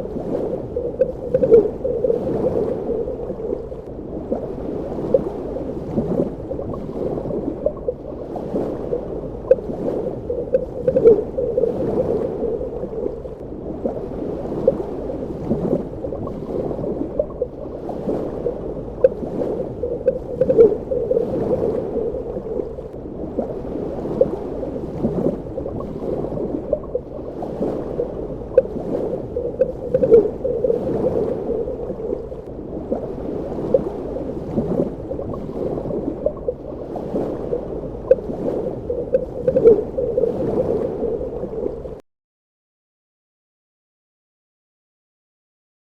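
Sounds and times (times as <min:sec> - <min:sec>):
muffled underwater water wash: 0:00.0 - 0:42.0.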